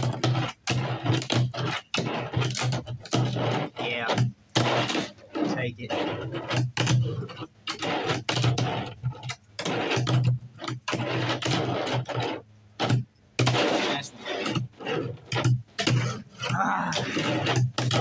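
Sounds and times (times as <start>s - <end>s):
fingerboard wheels rolling on table: 0.0s - 18.0s.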